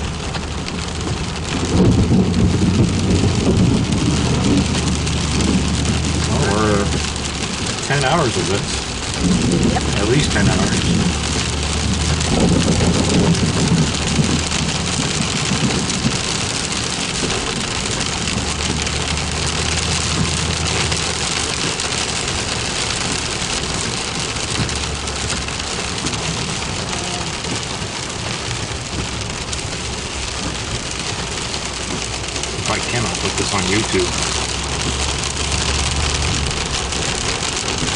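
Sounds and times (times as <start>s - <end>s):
heavy rain pouring: 0.0s - 37.9s
low thunder rumble: 0.0s - 37.9s.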